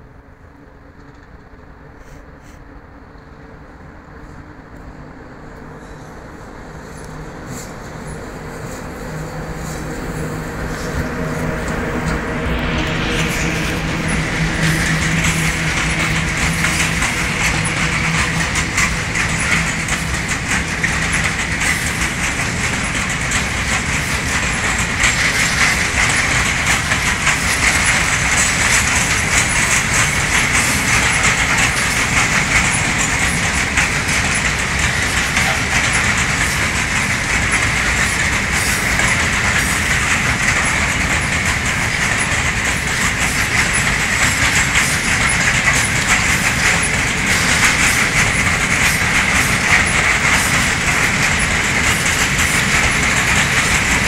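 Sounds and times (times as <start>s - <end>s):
train rushing noise: 0.0s - 54.0s
train wheels clacking: 5.5s - 54.0s.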